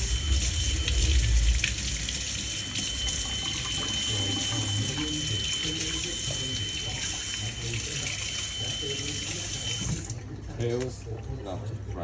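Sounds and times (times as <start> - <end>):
tap water running into sink: 0.0 - 10.9.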